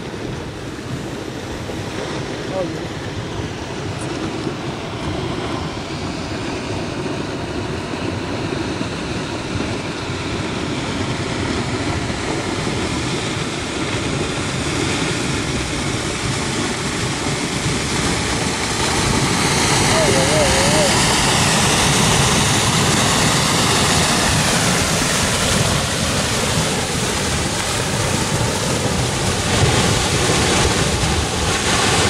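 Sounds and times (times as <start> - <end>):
torrent of mud and water rushing: 0.0 - 32.0.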